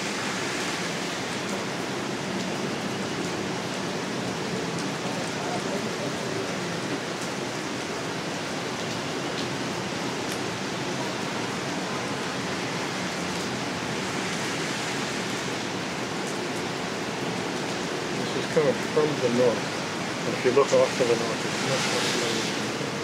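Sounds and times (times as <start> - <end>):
heavy rain on pavement: 0.0 - 23.0.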